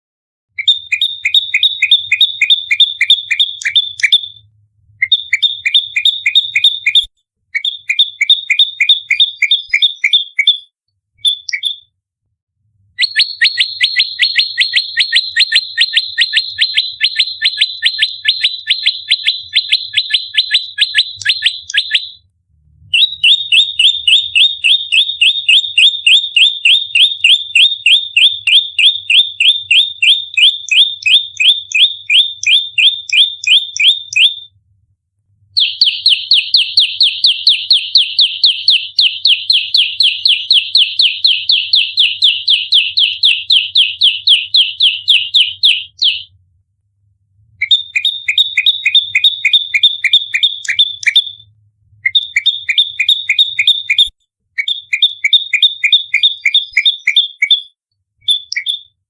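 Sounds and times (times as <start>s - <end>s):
songbird fast sharp chirps: 0.6s - 4.4s, 5.0s - 11.9s, 13.0s - 22.2s, 22.9s - 34.5s, 35.6s - 46.3s, 47.6s - 51.4s, 52.0s - 59.0s.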